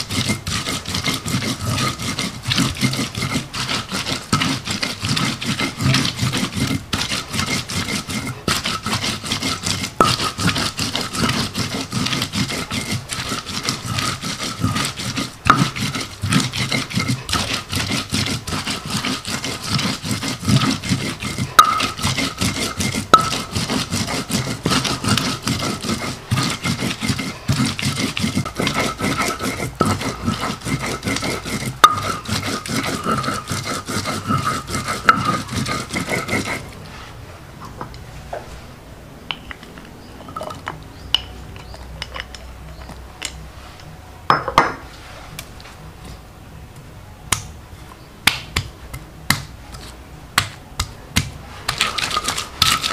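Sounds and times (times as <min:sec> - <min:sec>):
stone scraping against stone: 0:00.0 - 0:38.5, 0:39.3 - 0:46.2, 0:51.2 - 0:52.9.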